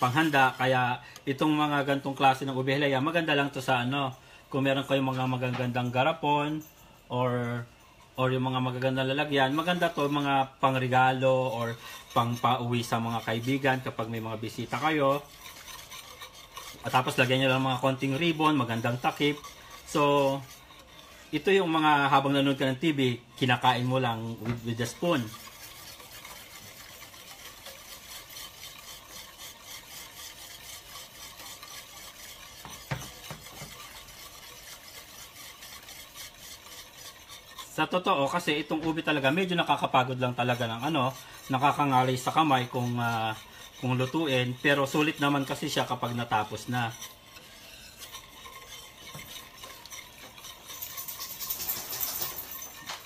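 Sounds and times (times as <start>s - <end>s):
whisk knocking against pan: 0.0s - 0.9s, 4.9s - 6.0s, 8.3s - 53.0s
whisk scraping in a pan: 0.0s - 53.0s.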